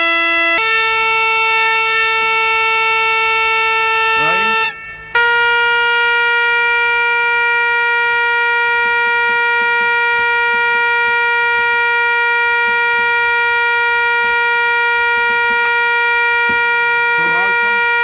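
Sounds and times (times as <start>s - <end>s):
pipe organ reed note: 0.0s - 18.0s.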